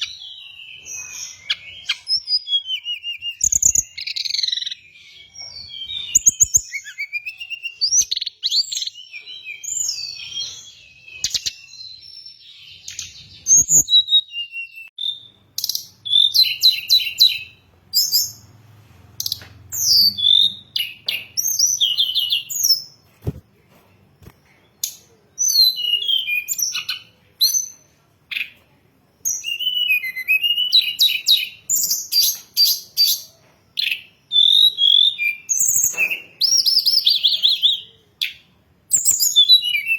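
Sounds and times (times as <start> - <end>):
bird high-pitched chirps and trills: 0.0 - 18.6, 19.2 - 23.4, 24.2 - 39.9.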